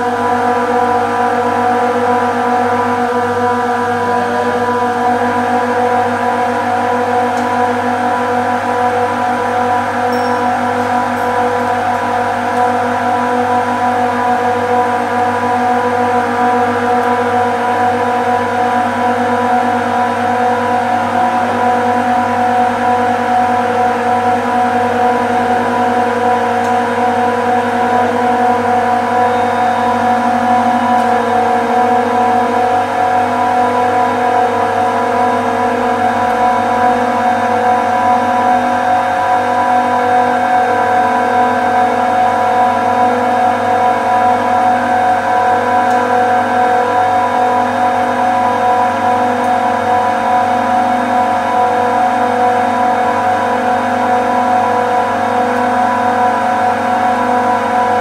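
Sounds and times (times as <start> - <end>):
refrigeration compressors humming: 0.0 - 58.0.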